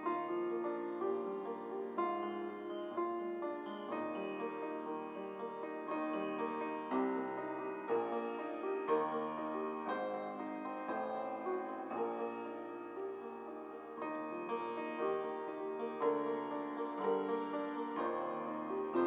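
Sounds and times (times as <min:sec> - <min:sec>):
slow gentle piano piece: 0:00.0 - 0:19.0.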